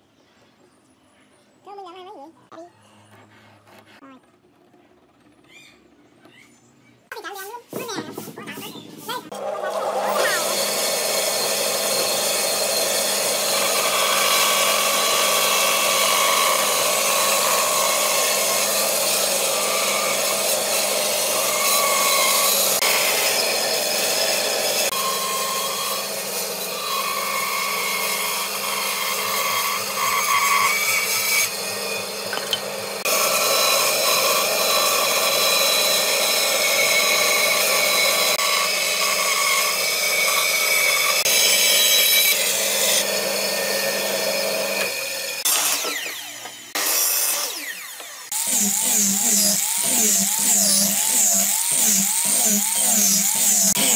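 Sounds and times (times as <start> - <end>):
band saw cutting wood: 7.7 - 53.9.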